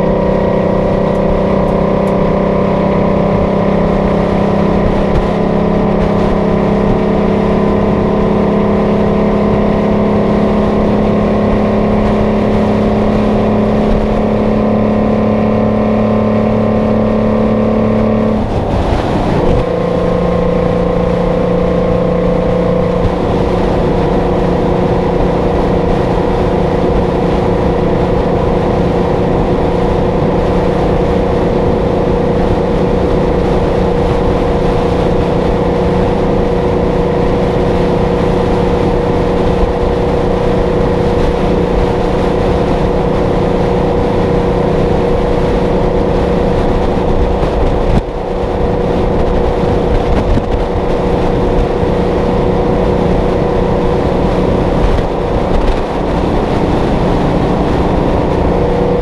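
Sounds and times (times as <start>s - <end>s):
road and wind noise: 0.0s - 59.0s
truck diesel engine droning: 0.0s - 59.0s.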